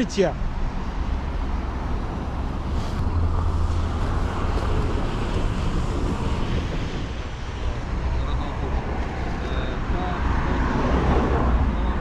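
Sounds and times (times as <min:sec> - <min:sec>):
road traffic passing: 0:00.0 - 0:12.0
wind rumble on microphone: 0:00.4 - 0:12.0.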